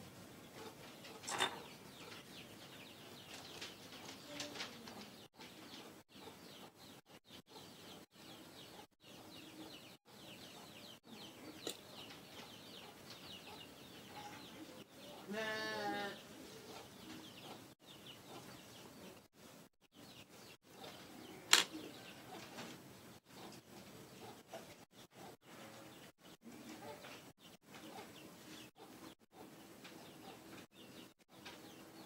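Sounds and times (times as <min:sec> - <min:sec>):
small birds chirping: 0:00.1 - 0:32.0.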